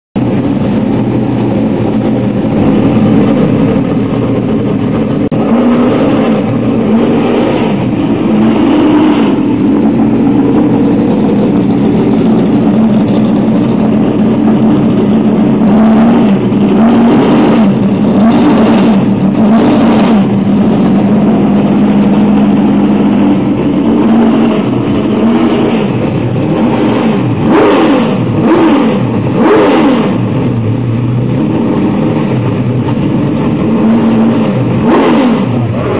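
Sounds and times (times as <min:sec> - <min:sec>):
car engine idling: 0:00.2 - 0:35.9
engine throttle blips: 0:00.2 - 0:35.9.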